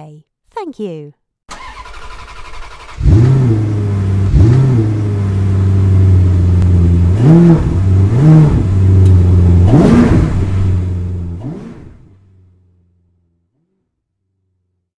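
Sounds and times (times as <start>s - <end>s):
car engine idling with throttle blips: 1.5s - 13.8s.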